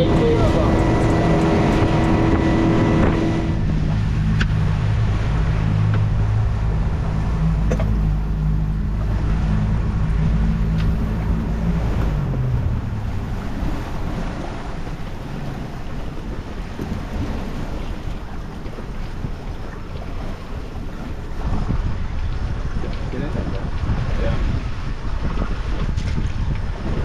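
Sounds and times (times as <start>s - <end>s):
boat engine running: 0.0s - 27.0s
wind buffeting microphone: 0.0s - 27.0s.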